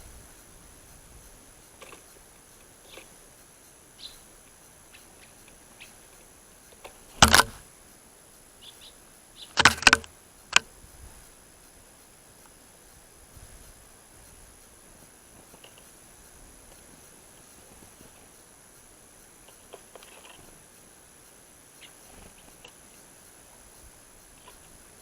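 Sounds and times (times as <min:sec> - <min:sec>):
faint bird chirps: 0:00.0 - 0:25.0.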